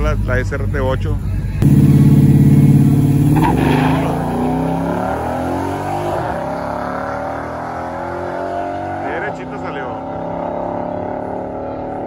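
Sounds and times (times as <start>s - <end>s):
engine at full throttle: 1.6s - 12.0s.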